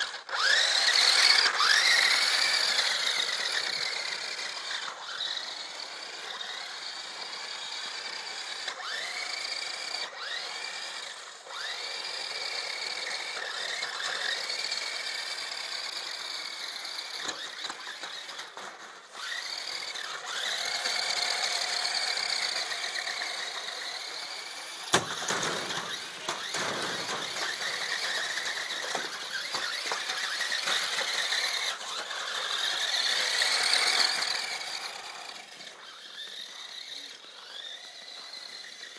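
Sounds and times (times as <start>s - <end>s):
toy car electric motors whining: 0.0s - 38.9s.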